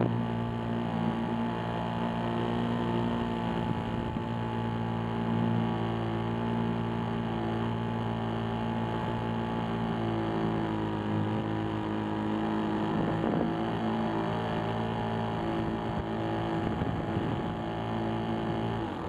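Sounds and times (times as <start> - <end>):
model airplane motor humming: 0.0 - 19.0.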